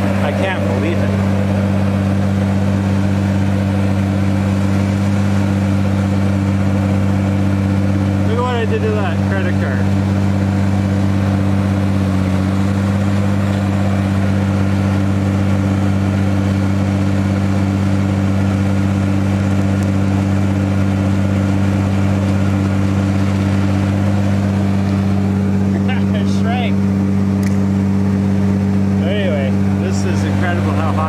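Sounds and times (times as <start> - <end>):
diesel engine droning at raised revs: 0.0 - 31.0.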